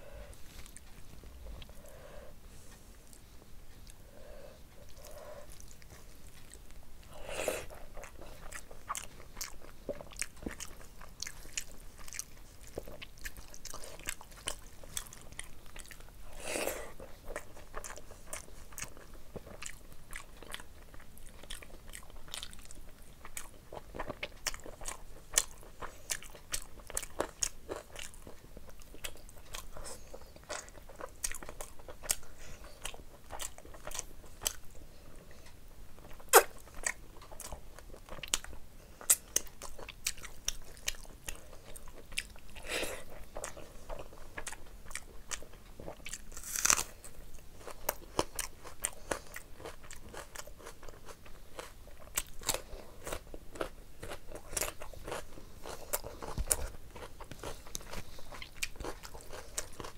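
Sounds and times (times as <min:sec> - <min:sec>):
chewing with wet mouth clicks: 0:04.8 - 0:16.2, 0:17.0 - 0:34.8, 0:35.4 - 0:59.9.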